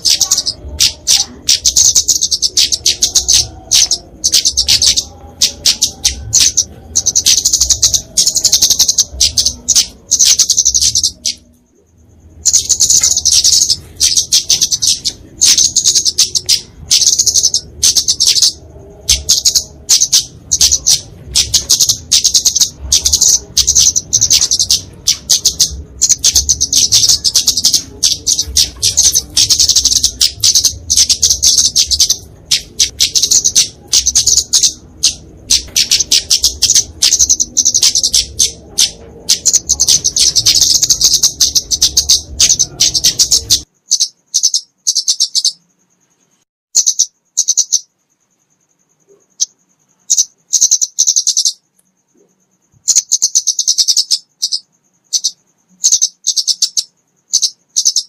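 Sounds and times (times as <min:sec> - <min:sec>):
bird chirping sharply: 0:00.0 - 0:58.0.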